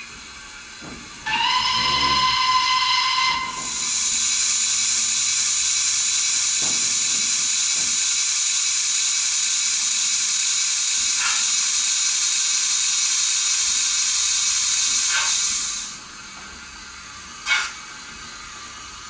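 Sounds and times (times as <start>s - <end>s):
hiss of escaping steam: 0.6s - 16.0s.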